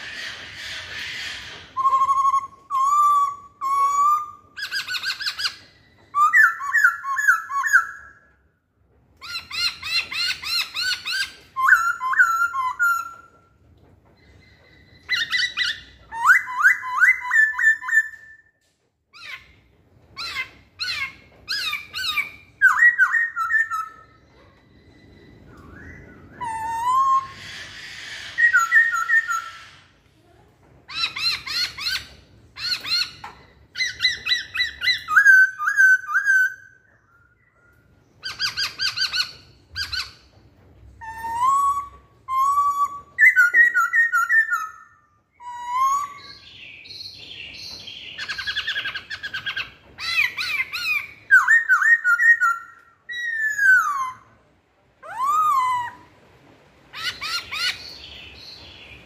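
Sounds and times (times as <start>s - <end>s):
bird singing whistled song: 1.4s - 8.3s, 9.2s - 13.5s, 14.2s - 18.6s, 20.2s - 29.6s, 30.9s - 40.2s, 41.0s - 54.4s, 55.0s - 56.1s.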